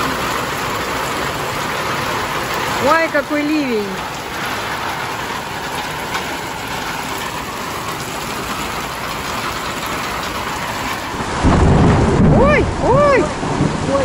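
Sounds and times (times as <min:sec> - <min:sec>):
heavy rain on grass and paving: 0:00.0 - 0:14.0.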